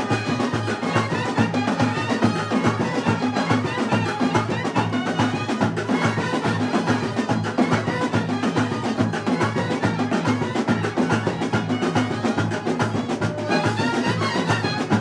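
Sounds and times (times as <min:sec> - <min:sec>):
brass band playing dance tune: 0:00.0 - 0:15.0
driving drumbeat: 0:00.0 - 0:15.0.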